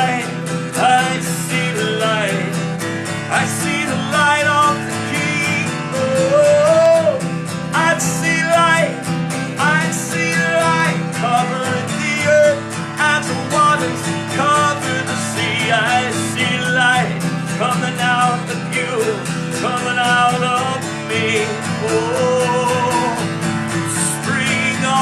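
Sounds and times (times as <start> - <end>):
acoustic guitar strumming: 0.0 - 25.0
person singing: 0.0 - 25.0.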